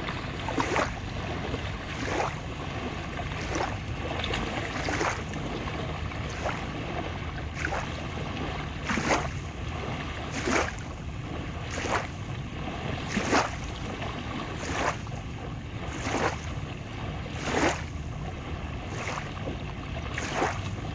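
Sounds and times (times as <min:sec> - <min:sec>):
small waves lapping on beach: 0:00.0 - 0:20.9.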